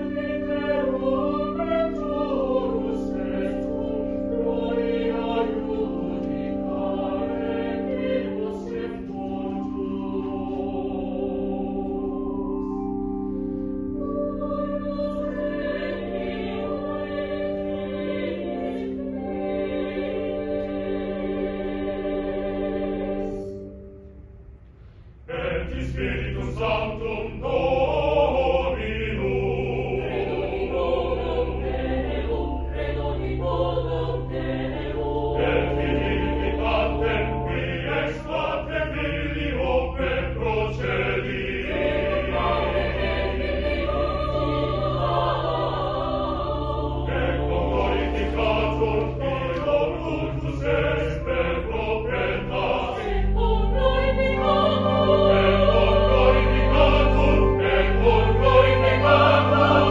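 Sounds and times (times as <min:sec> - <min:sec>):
mixed choir singing: 0:00.0 - 0:23.8, 0:25.3 - 0:59.9.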